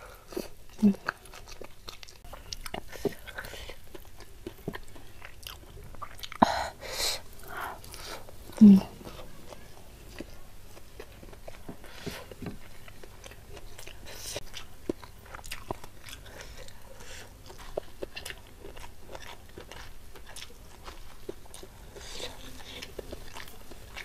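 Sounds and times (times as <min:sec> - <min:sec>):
person chewing crunchy food: 0:00.1 - 0:24.0.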